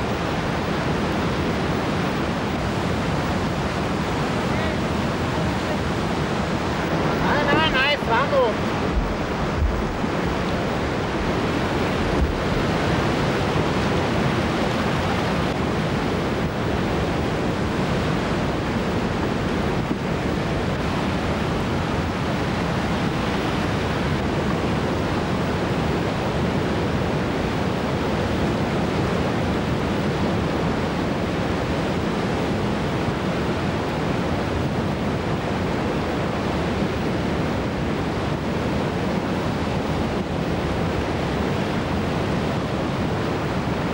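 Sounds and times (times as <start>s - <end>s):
whitewater river rushing: 0.0s - 43.9s.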